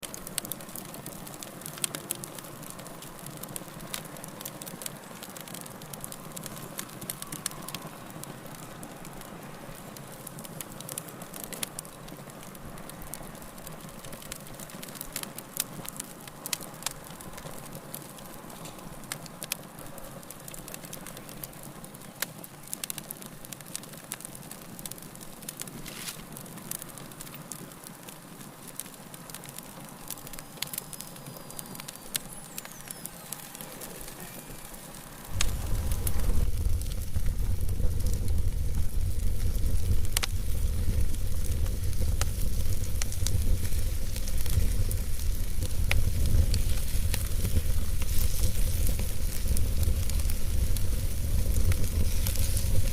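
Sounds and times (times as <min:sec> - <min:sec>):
fire crackling and popping: 0:00.0 - 0:52.9
fire hissing: 0:00.0 - 0:52.9.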